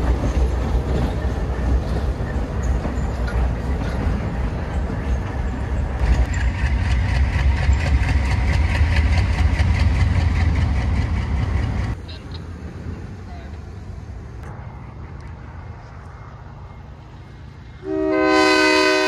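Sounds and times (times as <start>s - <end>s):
diesel locomotive engines rumbling: 0.0s - 19.0s.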